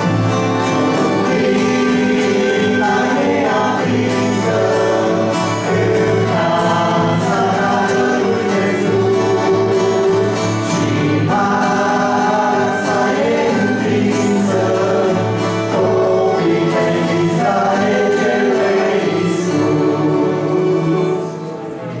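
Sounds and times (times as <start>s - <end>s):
two men singing: 0.0s - 21.6s
acoustic guitar: 0.0s - 22.0s
piano accordion: 0.0s - 22.0s.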